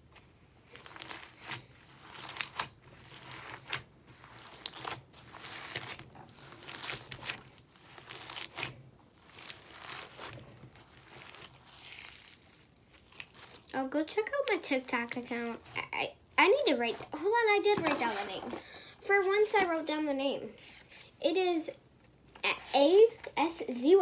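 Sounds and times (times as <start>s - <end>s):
slime with beads crackling: 0.1s - 20.0s.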